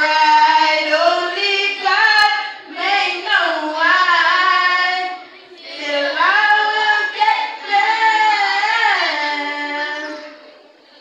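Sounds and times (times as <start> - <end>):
high voice singing: 0.0 - 10.6.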